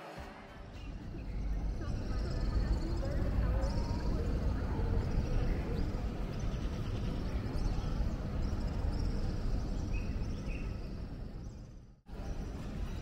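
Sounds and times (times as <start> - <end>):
steady low rumble: 0.2 - 12.8.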